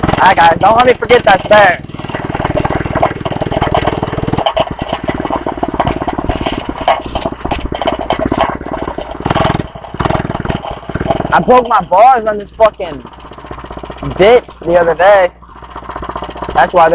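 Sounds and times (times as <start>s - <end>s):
small gas engine running: 0.0s - 16.9s.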